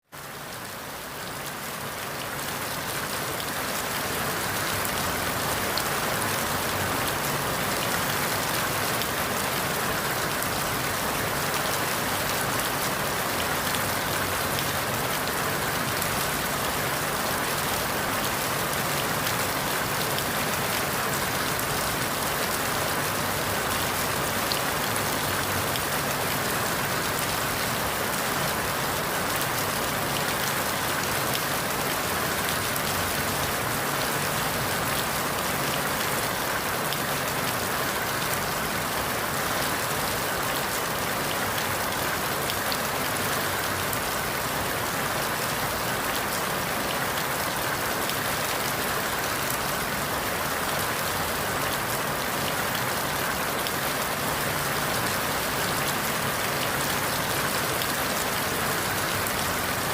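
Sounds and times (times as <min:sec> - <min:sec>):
rain on forest leaves: 0:00.0 - 0:59.9.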